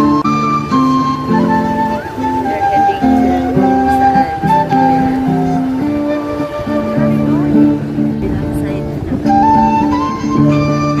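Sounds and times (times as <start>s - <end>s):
instrumental melody of held notes: 0.0s - 11.0s.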